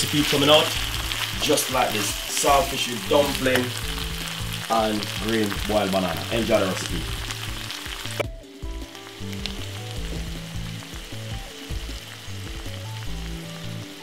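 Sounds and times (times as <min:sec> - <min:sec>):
background music with low notes: 0:00.0 - 0:14.0
food sizzling in a frying pan: 0:00.0 - 0:14.0.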